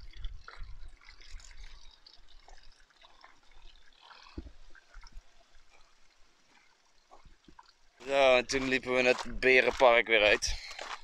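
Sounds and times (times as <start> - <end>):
water trickling in a pool: 0.0 - 9.0.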